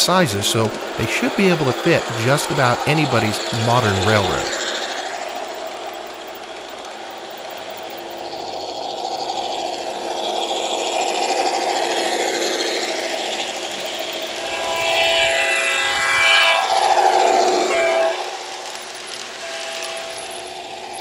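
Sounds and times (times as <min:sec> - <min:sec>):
model train rolling on track: 0:00.0 - 0:21.0
steady tones: 0:00.0 - 0:21.0.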